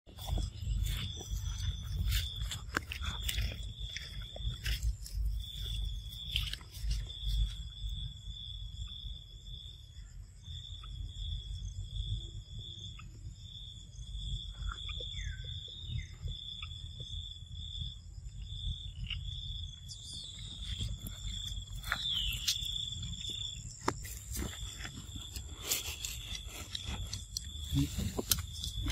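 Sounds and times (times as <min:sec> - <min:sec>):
insects trilling: 0:00.1 - 0:28.9.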